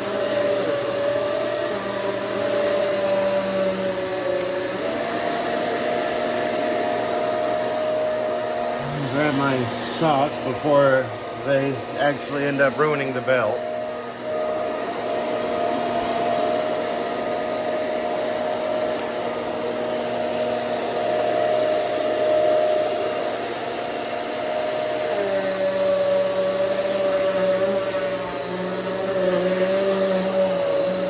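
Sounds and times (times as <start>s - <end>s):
upright vacuum cleaner running: 0.0s - 31.0s.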